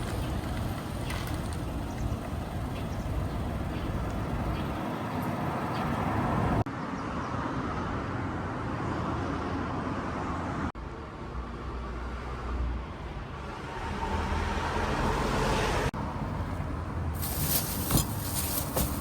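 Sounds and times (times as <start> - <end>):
road noise from passing cars: 0.0 - 19.0.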